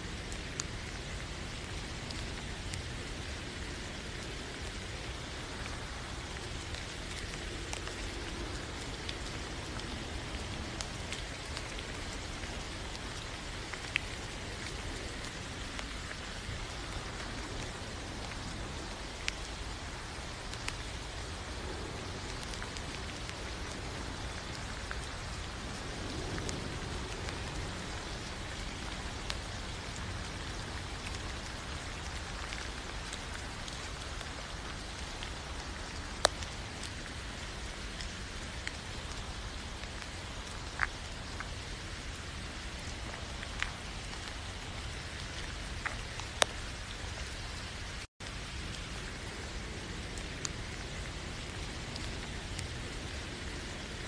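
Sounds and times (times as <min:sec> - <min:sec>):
sharp rain ticks: 0:00.0 - 0:54.0
steady rain hiss: 0:00.0 - 0:54.0.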